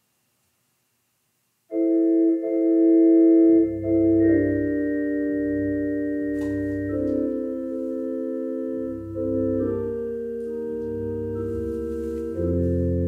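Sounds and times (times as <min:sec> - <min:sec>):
organ playing hymn chords: 0:01.7 - 0:13.0.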